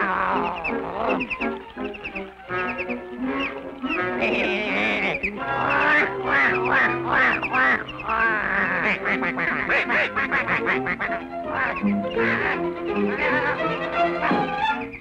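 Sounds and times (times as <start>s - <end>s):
cartoon duck quacking: 0.0s - 15.0s
orchestral music: 0.3s - 15.0s.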